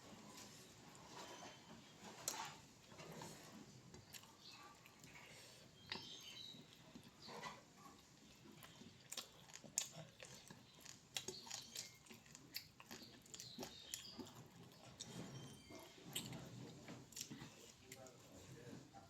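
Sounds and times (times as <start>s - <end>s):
person chewing food: 1.5s - 18.4s.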